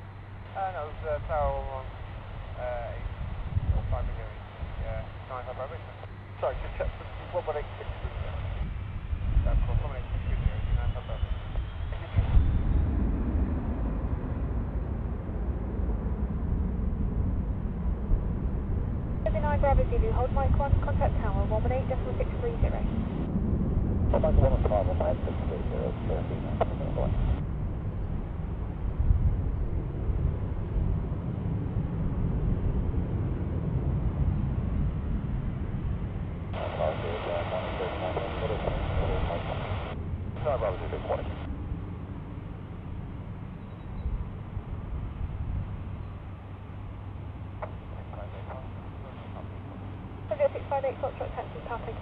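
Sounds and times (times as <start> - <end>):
jet engines low rumble: 0.0 - 52.0.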